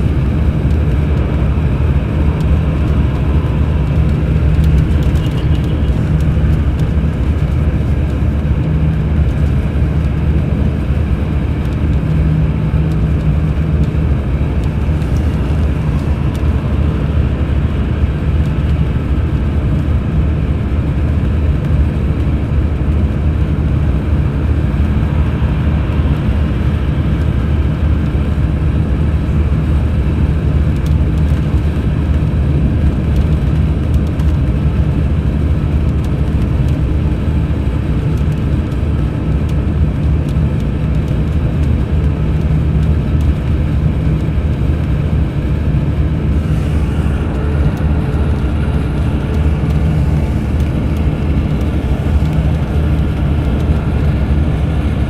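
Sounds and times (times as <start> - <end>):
coach diesel engine droning: 0.0 - 55.0
road noise: 0.0 - 55.0.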